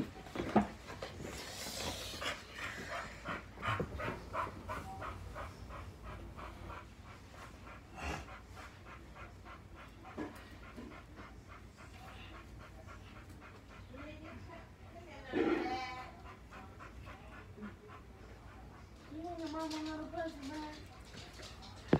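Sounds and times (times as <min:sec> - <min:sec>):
dog panting rapidly: 0:00.4 - 0:21.9.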